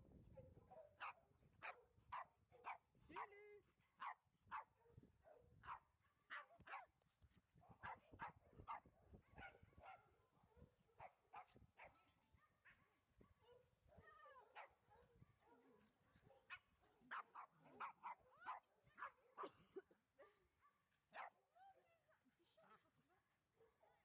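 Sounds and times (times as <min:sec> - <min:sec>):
faint dog barking: 0:00.3 - 0:07.0, 0:07.6 - 0:21.4.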